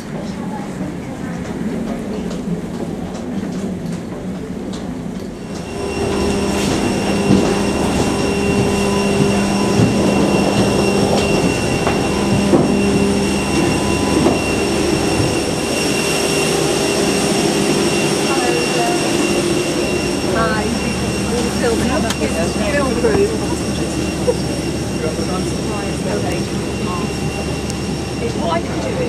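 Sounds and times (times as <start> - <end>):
jet machine whine and hum: 0.0 - 29.0
rolling luggage: 2.2 - 29.0
footsteps: 4.8 - 28.4.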